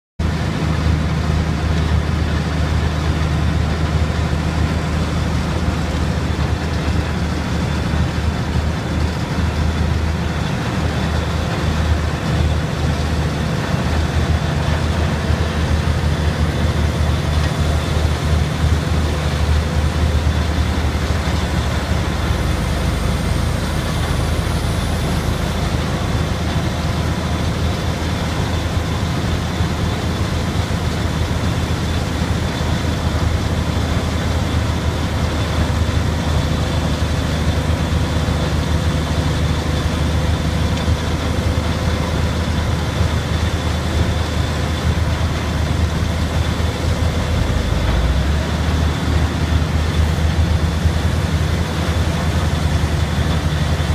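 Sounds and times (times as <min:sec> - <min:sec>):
tub grinder engine drone: 0:00.2 - 0:53.9.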